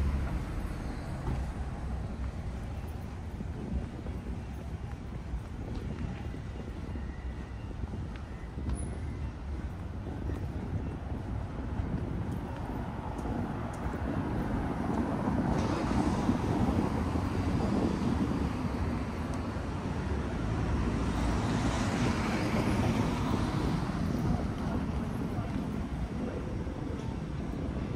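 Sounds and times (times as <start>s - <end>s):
vehicles passing on road: 0.0s - 27.9s.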